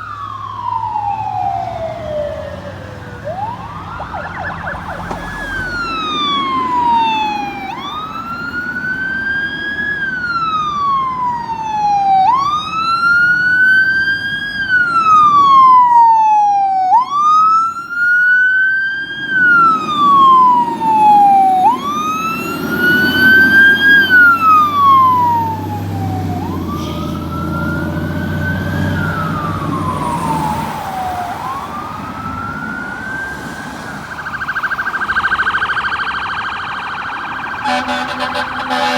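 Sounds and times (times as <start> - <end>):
siren wailing: 0.0 - 38.9.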